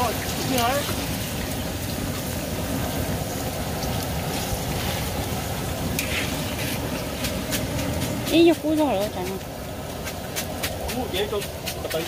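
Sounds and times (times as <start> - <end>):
hot oil sizzling in a wok: 0.0 - 12.0.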